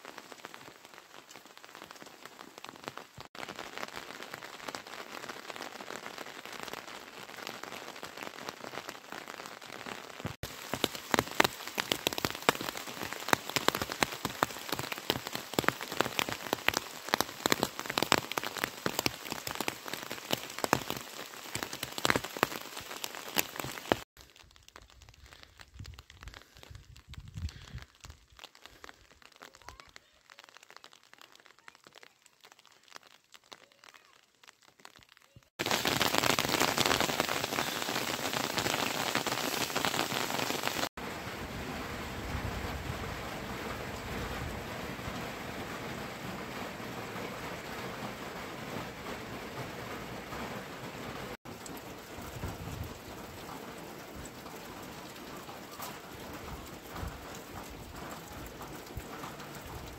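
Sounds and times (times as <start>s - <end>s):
rain falling: 0.0s - 59.9s
raindrops ticking close by: 0.0s - 59.9s.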